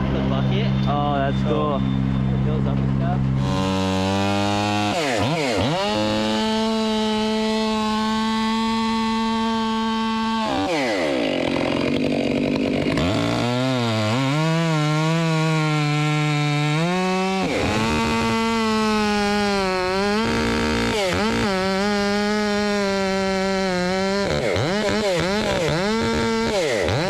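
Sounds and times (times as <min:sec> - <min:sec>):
chainsaw cutting: 0:00.0 - 0:27.0.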